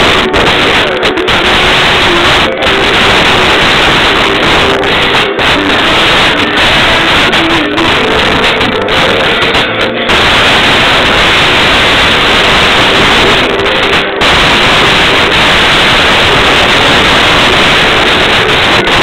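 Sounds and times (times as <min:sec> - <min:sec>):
loud steady rushing noise: 0:00.0 - 0:19.0.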